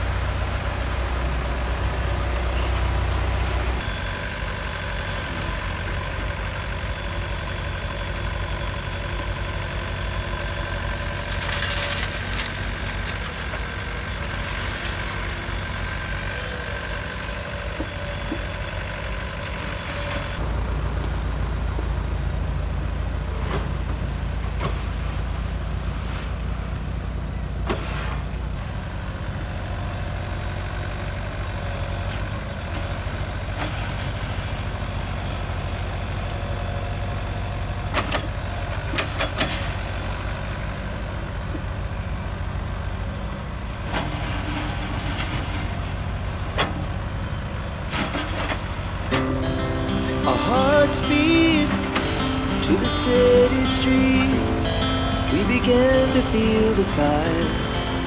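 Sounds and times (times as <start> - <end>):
mini excavator engine: 0.0 - 58.0
motor grader rumbling on gravel: 0.0 - 58.0.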